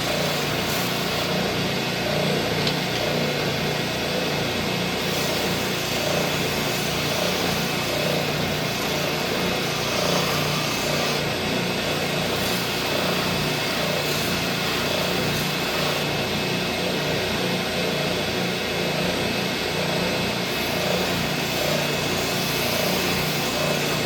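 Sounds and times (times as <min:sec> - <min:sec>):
oscillating sander sanding leather: 0:00.0 - 0:24.0.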